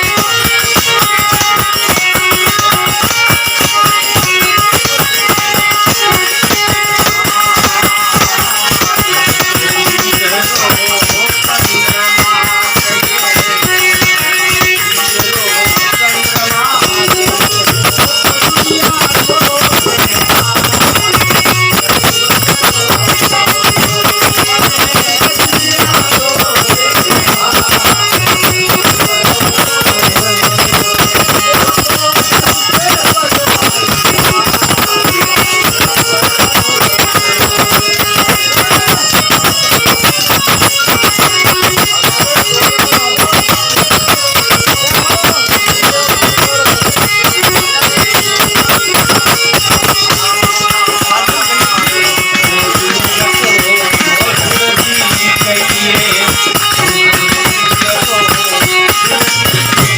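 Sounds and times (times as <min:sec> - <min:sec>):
devotional music: 0:00.0 - 0:59.9
tambourine beat: 0:00.0 - 0:59.9.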